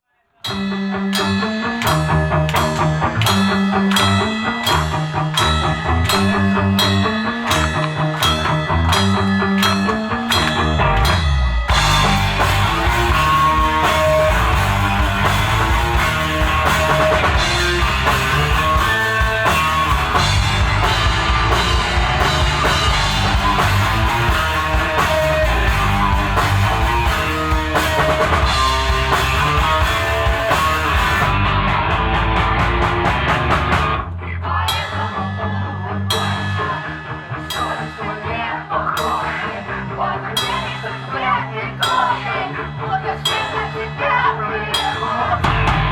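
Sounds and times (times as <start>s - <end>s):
rock band playing live: 0.5s - 45.9s.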